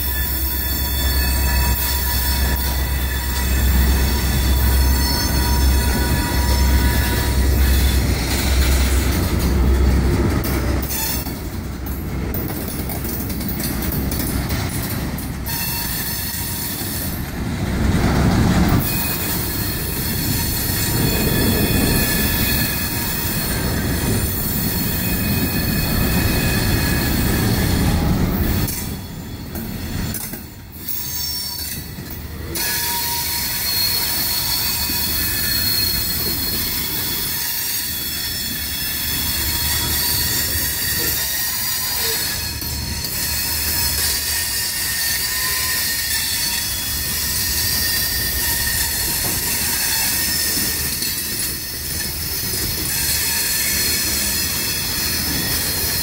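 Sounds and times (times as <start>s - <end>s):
high wheel squeal: 0.0s - 9.7s, 15.4s - 17.3s, 18.8s - 30.2s, 30.8s - 56.0s
train wheels rumbling on rails: 0.0s - 56.0s.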